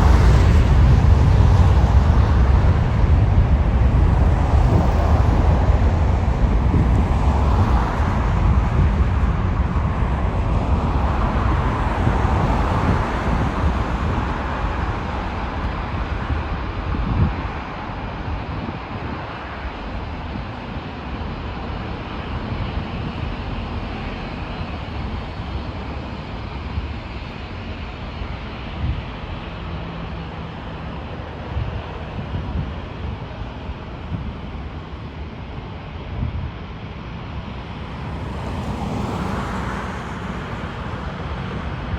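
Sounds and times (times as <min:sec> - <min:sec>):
jet airliner passing: 0:00.0 - 0:41.9.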